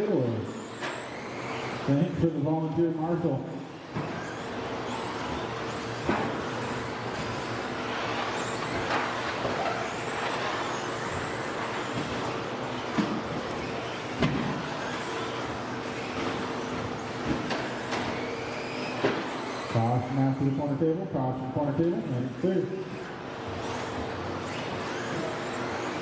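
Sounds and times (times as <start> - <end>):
rc truck motors whining: 0.0 - 2.4, 3.0 - 20.8, 21.9 - 26.0.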